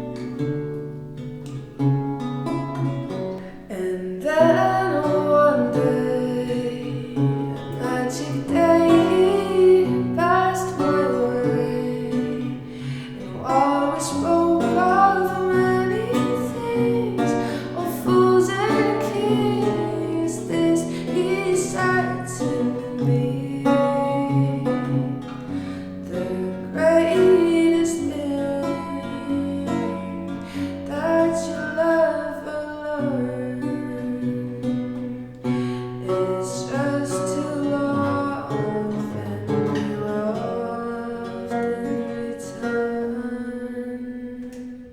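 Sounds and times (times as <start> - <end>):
plucked archlute: 0.0 - 44.9
person singing: 3.3 - 44.9.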